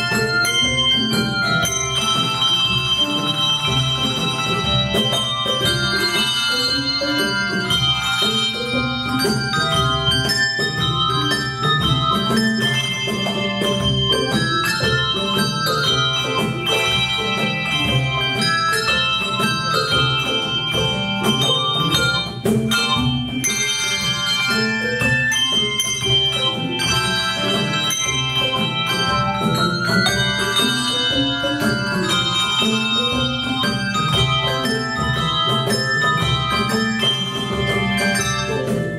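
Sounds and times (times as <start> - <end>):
handbell choir playing: 0.0 - 38.9.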